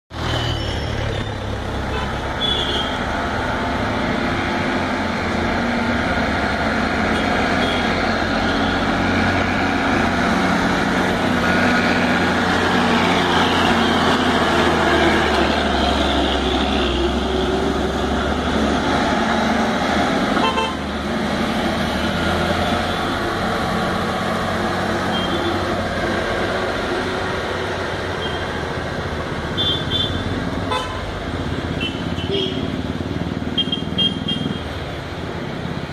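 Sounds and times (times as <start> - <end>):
lorry diesel engine passing: 0.2 - 29.6.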